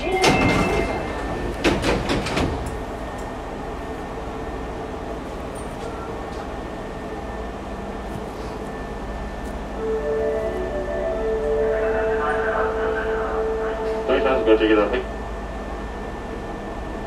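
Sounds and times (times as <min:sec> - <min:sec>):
train doors shutting: 0:00.0 - 0:17.0
train humming: 0:00.0 - 0:17.0.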